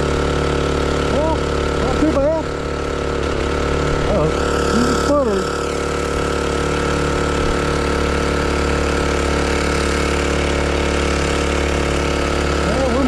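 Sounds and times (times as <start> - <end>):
outboard motor sputtering: 0.0 - 13.0.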